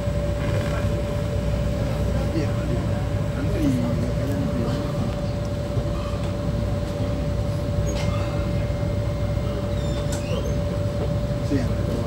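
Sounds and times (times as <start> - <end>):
constant hum tone: 0.0 - 12.0
ferry engines droning: 0.0 - 12.0.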